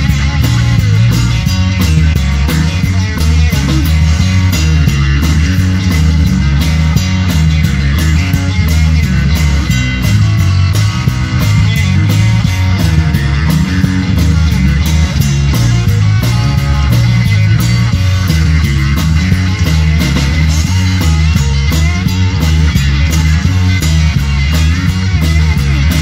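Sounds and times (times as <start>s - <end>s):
drum kit steady beat: 0.0s - 26.0s
electric guitars: 0.0s - 26.0s.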